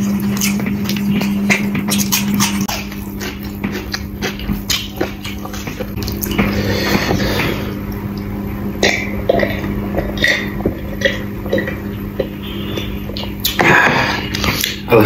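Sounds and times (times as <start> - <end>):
chewing with wet smacks: 0.0 - 14.9
low hum: 0.0 - 14.9.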